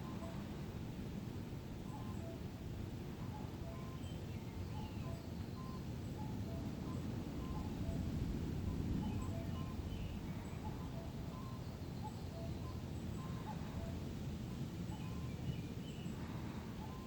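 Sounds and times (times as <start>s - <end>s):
wind rumbling: 0.0s - 17.0s
faint bird chirps: 1.8s - 2.5s, 3.1s - 14.1s, 14.8s - 17.0s.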